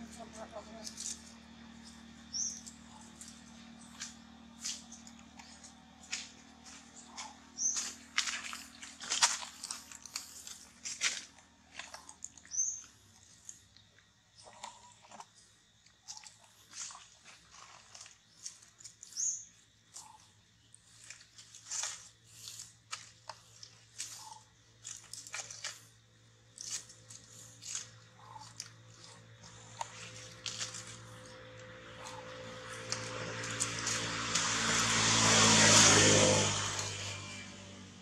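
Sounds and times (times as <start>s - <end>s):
dry leaves crunching: 0.0s - 12.8s, 16.1s - 19.3s, 20.8s - 37.8s.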